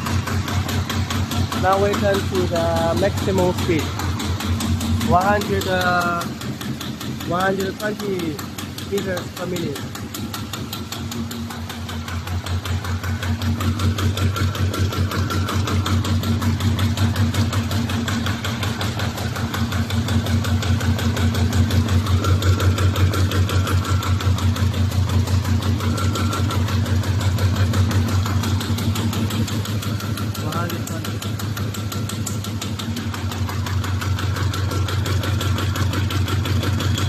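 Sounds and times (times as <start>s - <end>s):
machine clattering: 0.0s - 37.0s
steady machine hum: 0.0s - 37.0s.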